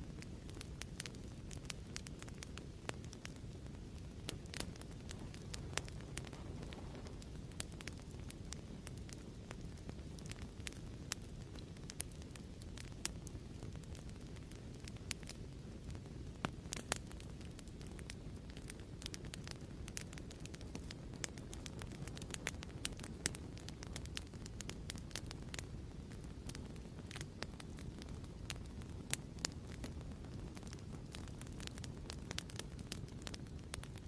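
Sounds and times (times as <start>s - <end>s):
fire burning rumble: 0.0s - 34.0s
fire popping and crackling: 0.0s - 34.0s.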